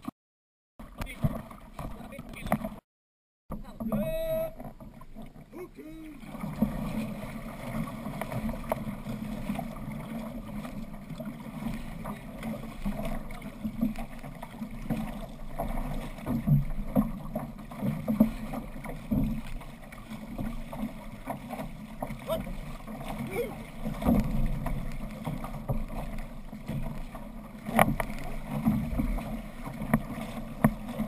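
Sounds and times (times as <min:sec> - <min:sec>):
water rushing along hull: 0:00.8 - 0:02.8, 0:03.5 - 0:31.0.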